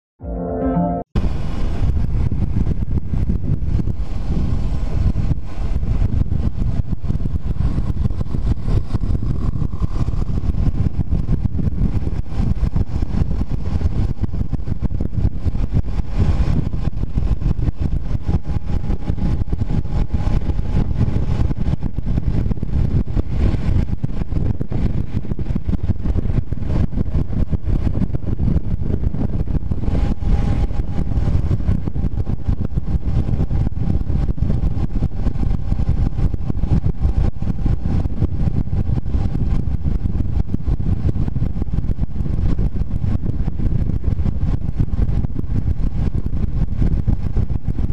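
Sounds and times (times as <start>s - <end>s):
wind and road noise: 1.2s - 47.9s
motorcycle engine cruising: 1.3s - 47.9s.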